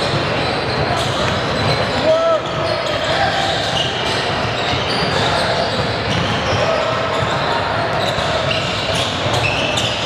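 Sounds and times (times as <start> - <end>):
indistinct voices in echoing hall: 0.0 - 10.0.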